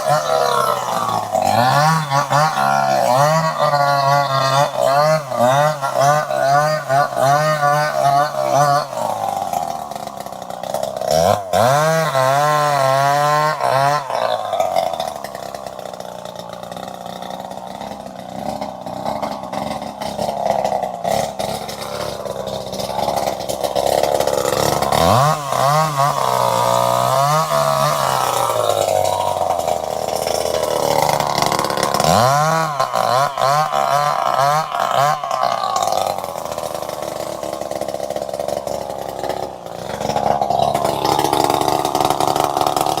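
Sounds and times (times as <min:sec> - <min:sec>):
chainsaw engine revving: 0:00.0 - 0:43.0.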